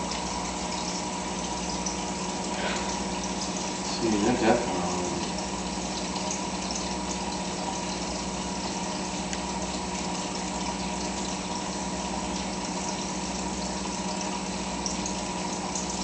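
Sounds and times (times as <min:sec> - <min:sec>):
filter pump motor hum: 0:00.0 - 0:16.0
splashing running water: 0:00.0 - 0:16.0.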